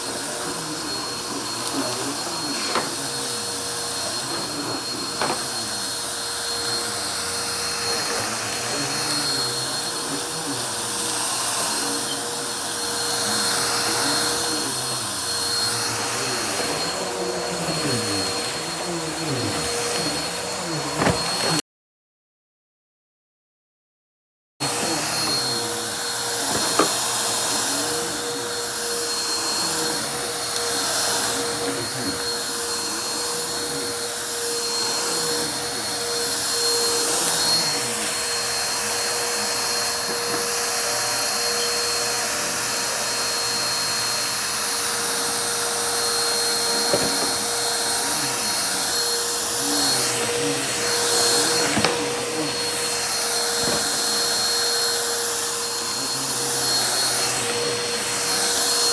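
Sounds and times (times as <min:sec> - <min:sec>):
vacuum cleaner whine: 0:00.0 - 0:21.6, 0:24.6 - 0:58.9.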